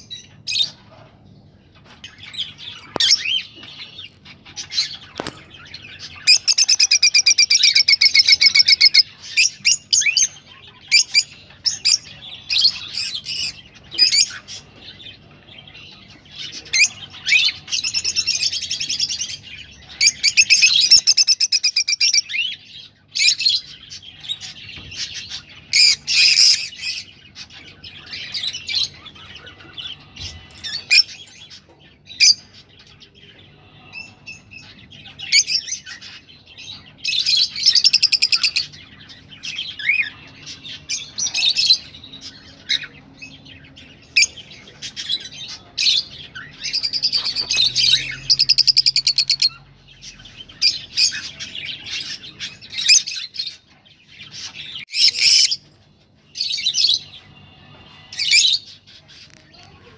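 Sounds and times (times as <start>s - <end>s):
lovebirds chirping: 0.0s - 59.9s
rapid bird chatter: 0.0s - 59.9s.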